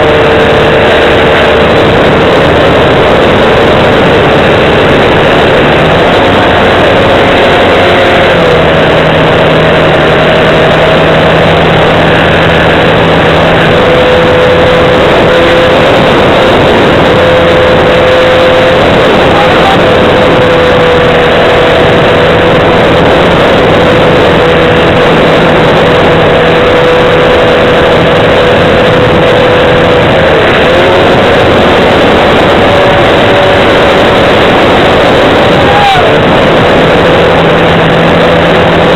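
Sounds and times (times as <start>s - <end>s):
model airplane motor running: 0.0s - 38.9s
rushing air noise: 0.0s - 38.9s.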